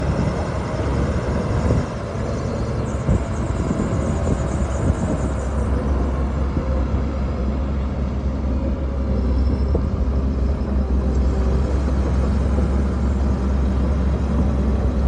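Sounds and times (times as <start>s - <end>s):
bulldozer engine rumbling: 0.0s - 15.0s.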